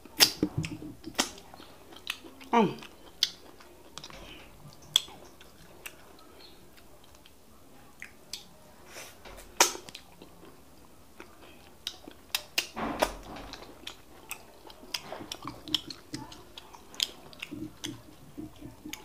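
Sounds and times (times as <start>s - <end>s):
wet smacking and chewing: 0.0s - 7.4s, 8.0s - 8.6s, 9.4s - 19.0s.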